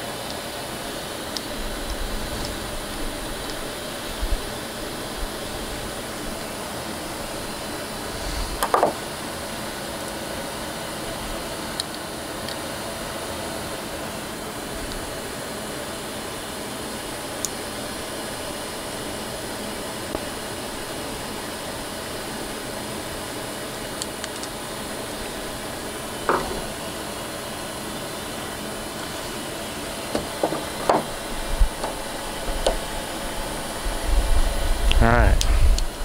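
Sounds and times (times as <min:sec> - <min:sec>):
shop air hiss: 0:00.0 - 0:36.0.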